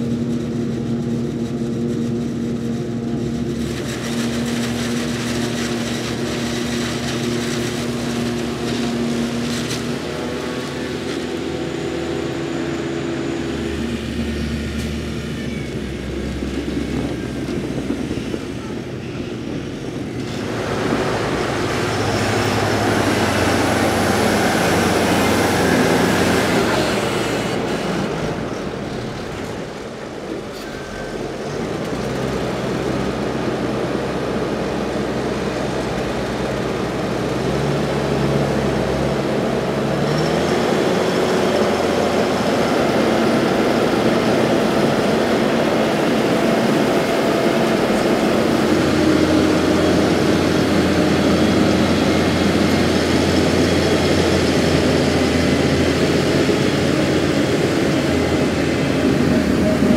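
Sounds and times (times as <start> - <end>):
loader wagon unloading silage: 0.0 - 59.9
tractor engine running: 0.0 - 59.9.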